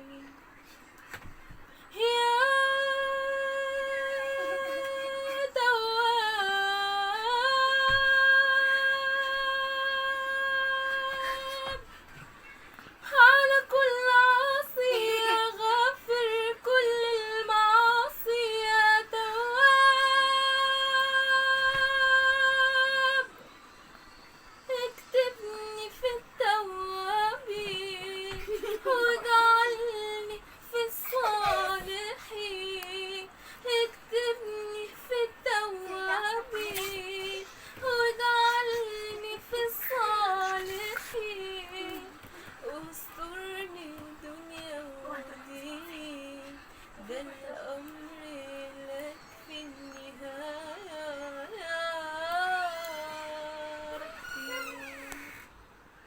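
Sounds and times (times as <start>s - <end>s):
woman singing unaccompanied: 0.0s - 0.6s, 1.2s - 12.2s, 13.0s - 23.4s, 24.6s - 55.5s.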